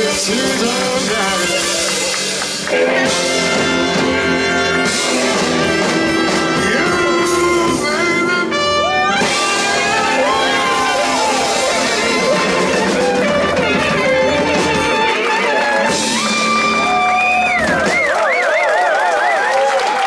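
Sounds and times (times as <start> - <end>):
live blues band playing: 0.0 - 18.3
horn section holding long notes: 0.0 - 18.6.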